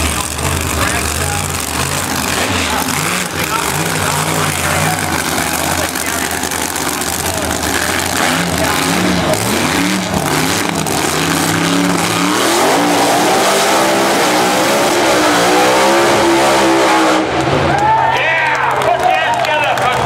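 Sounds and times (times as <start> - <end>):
drag racing cars at full throttle: 0.0 - 20.0
drag racing engines revving: 0.0 - 20.0.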